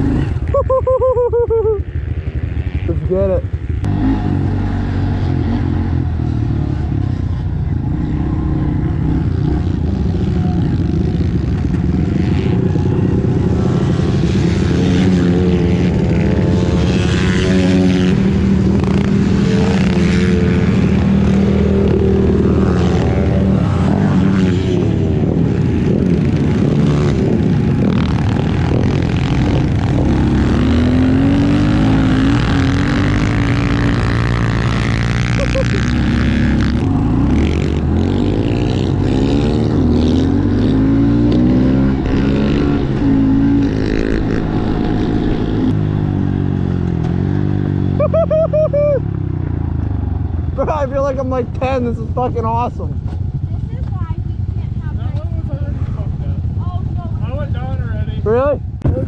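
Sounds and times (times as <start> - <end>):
pit bike engine revving: 0.0 - 53.8.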